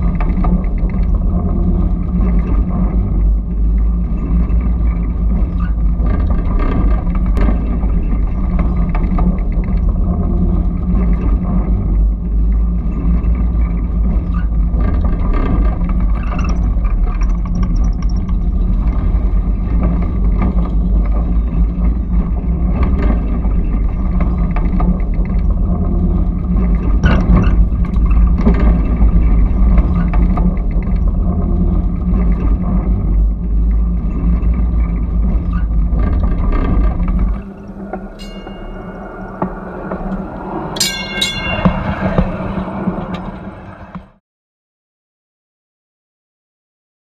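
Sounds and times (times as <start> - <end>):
trolley wheels rumbling on rails: 0.0 - 44.2.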